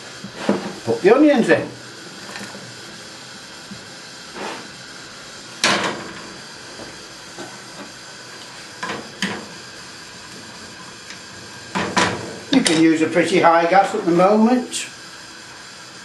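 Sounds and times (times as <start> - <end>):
frying pan hissing: 0.0 - 16.0.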